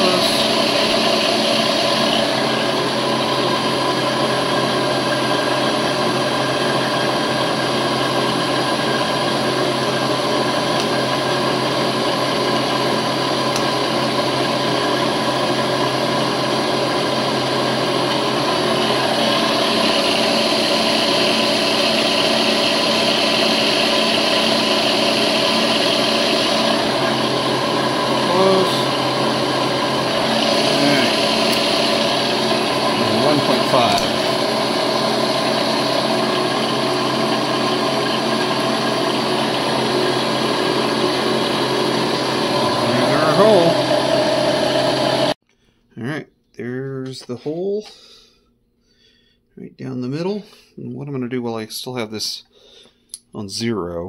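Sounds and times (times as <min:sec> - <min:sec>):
high machine whine: 0:00.0 - 0:45.4
milling machine motor hum: 0:00.0 - 0:45.4.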